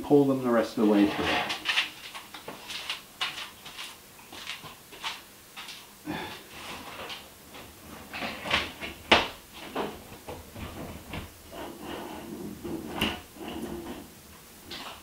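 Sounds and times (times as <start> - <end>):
wires scraping and rustling: 0.8 - 5.9, 6.5 - 15.0.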